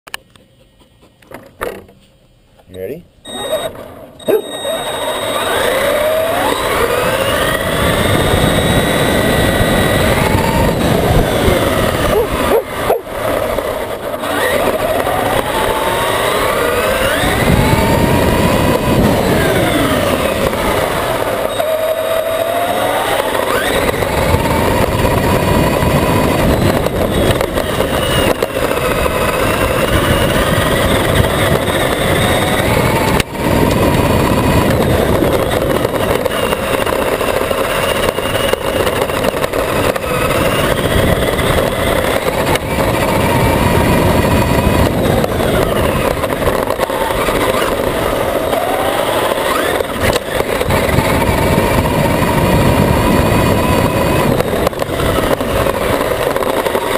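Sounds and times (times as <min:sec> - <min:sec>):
chassis and tyres rumbling: 0:00.1 - 0:56.9
electric motor whine: 0:03.2 - 0:56.9.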